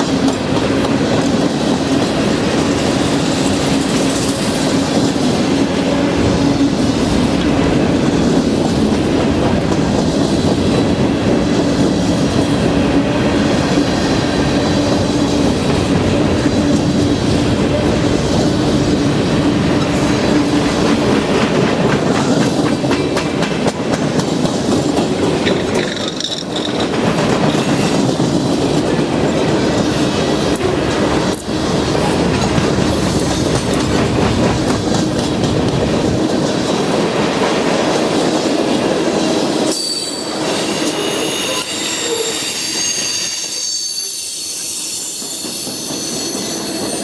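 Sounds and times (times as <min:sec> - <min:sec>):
train wheels clacking over rail joints: 0:00.0 - 0:39.8.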